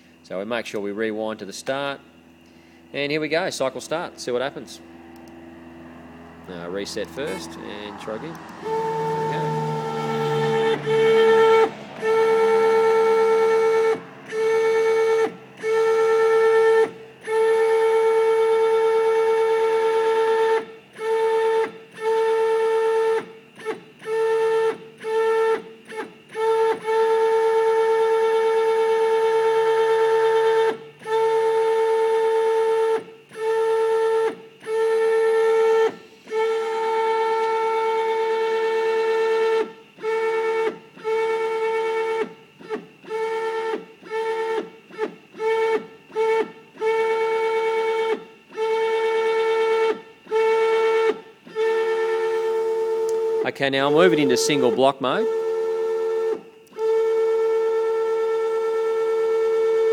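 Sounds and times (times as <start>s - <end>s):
stepper motor whining: 0.0s - 59.9s.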